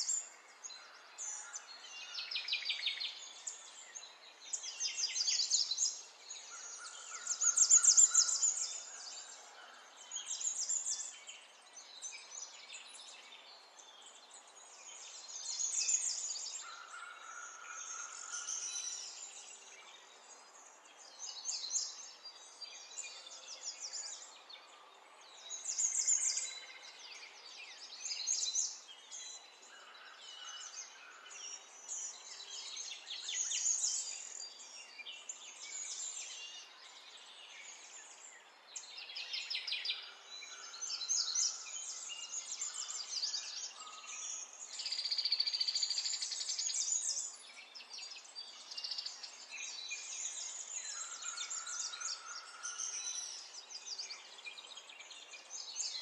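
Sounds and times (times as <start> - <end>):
birdsong chirps and trills: 0.0 - 56.0.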